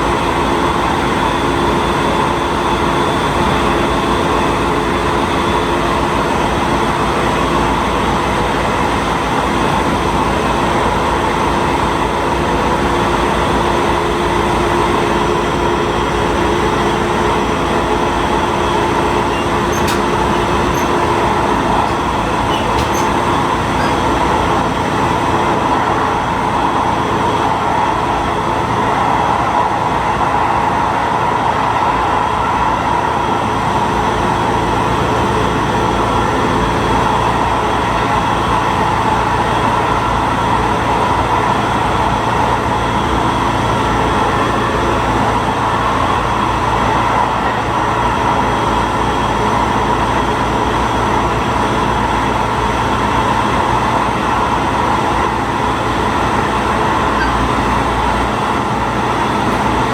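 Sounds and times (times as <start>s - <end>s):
railcar engine drone: 0.0s - 59.9s
wheels on rail noise: 0.0s - 59.9s.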